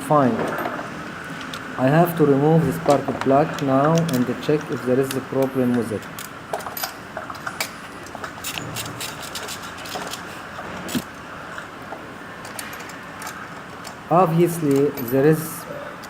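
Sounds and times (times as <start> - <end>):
metal tools clicking and clinking: 0.2 - 11.6, 12.4 - 15.7.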